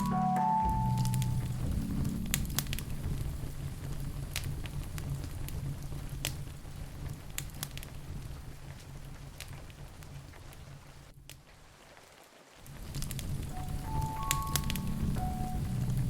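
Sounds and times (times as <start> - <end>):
rain: 0.0 - 16.0
wood fire crackling: 0.0 - 16.0.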